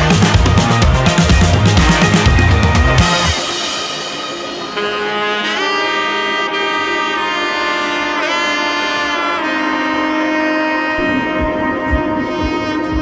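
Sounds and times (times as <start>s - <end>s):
saxophone melody: 0.0s - 13.0s.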